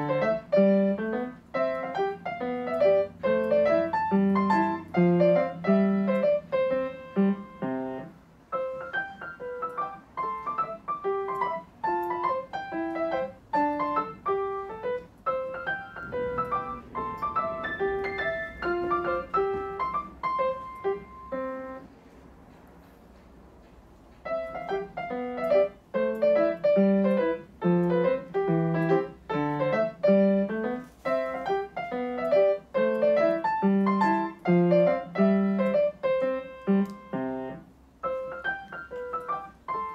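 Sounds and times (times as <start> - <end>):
gentle piano melody: 0.0 - 22.9, 23.6 - 39.9.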